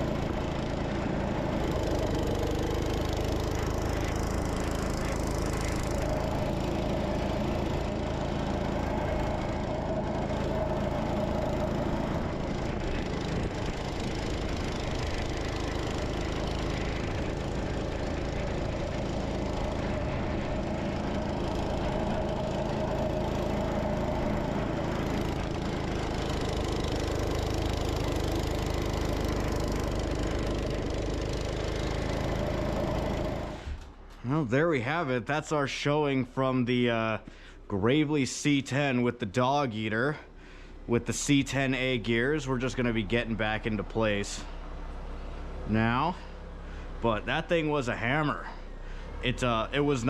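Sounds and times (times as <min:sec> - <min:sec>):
engine running under load: 0:00.0 - 0:50.0.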